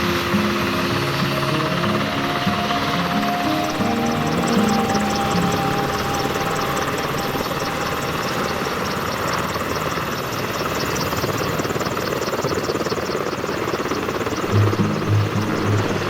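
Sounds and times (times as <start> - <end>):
helicopter rotor and turbine: 0.0 - 16.0.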